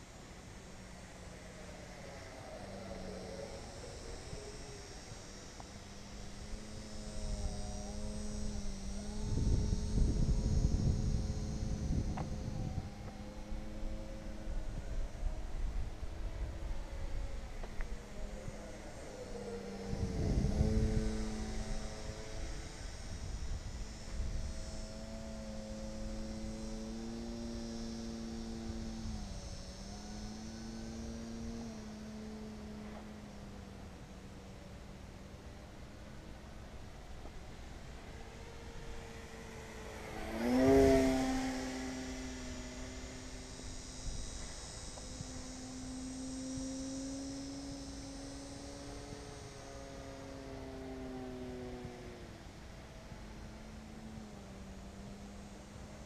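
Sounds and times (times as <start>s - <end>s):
model plane motor whining overhead: 0.0s - 56.0s.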